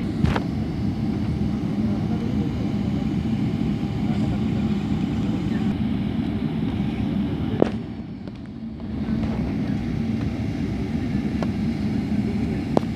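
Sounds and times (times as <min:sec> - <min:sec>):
airliner cabin rumble and hum: 0:00.0 - 0:12.9.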